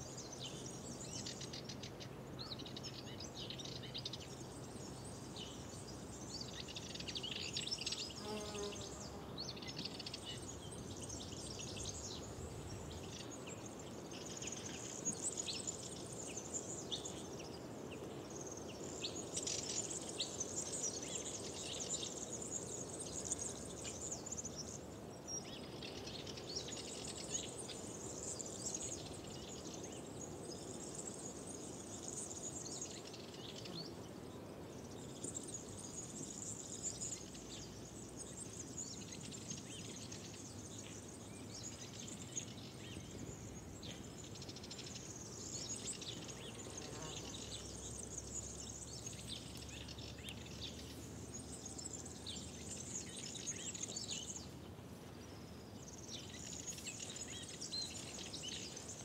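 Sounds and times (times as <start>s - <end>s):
low background hiss: 0.0s - 59.0s
songbirds chirping and singing: 0.0s - 59.0s.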